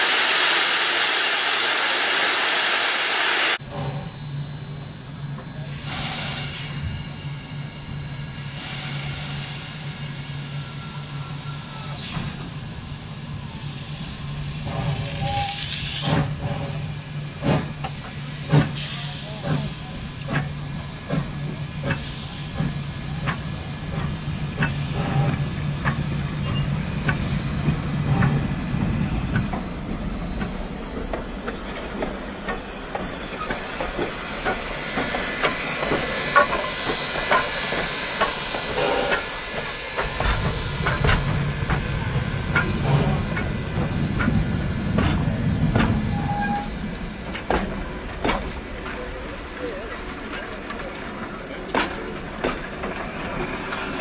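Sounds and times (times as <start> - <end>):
steady high squeal: 0.0 - 54.0.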